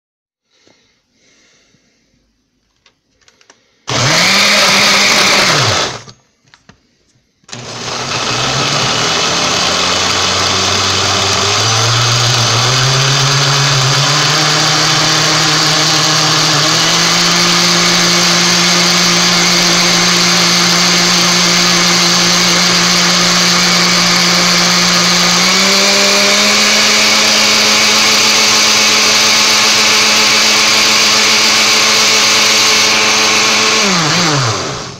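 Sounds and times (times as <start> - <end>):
blender grinding: 3.9 - 6.2, 7.5 - 34.9.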